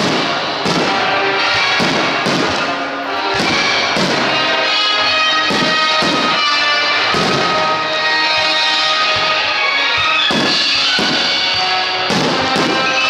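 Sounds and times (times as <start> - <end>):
firework shells bursting: 0.0 - 7.9, 10.0 - 13.0
loud background music: 0.0 - 13.0.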